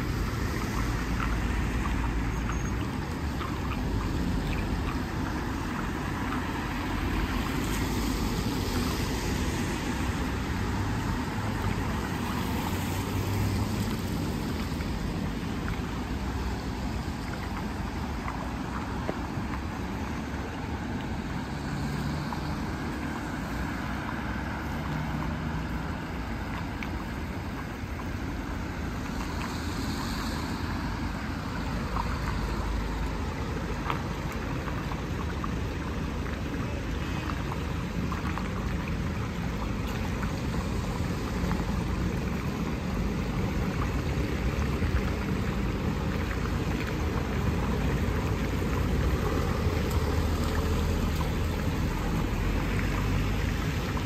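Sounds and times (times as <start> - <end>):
cars passing on wet road: 0.0 - 54.0
water swirling down a drain: 0.0 - 54.0.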